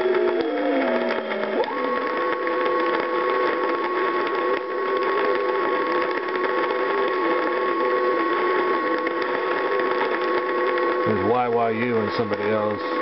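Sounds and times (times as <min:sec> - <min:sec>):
radio static hiss: 0:02.5 - 0:13.0.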